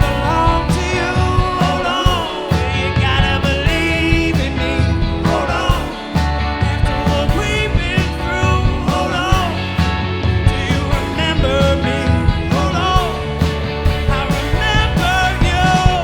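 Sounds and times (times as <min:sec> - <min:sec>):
bass line: 0:00.0 - 0:16.0
drums: 0:00.0 - 0:16.0.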